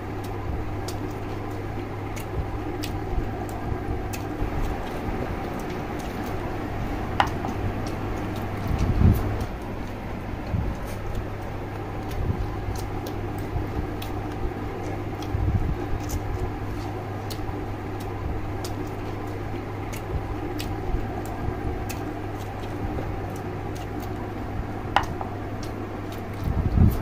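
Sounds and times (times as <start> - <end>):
chewing and lip-smacking: 0.0 - 27.0
low steady hum: 0.0 - 27.0.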